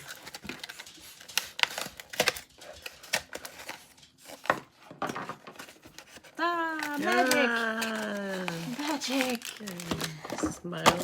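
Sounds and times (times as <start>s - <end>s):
packaging crinkling and clicking: 0.0s - 11.0s.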